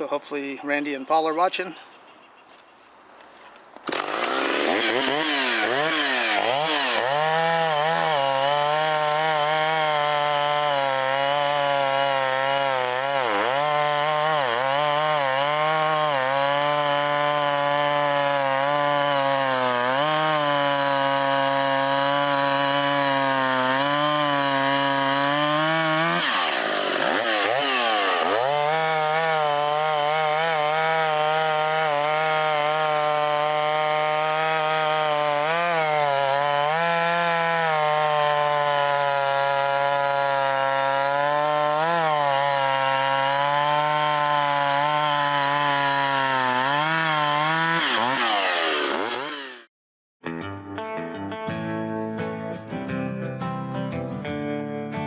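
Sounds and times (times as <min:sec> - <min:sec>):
chainsaw cutting wood: 0:03.8 - 0:49.7.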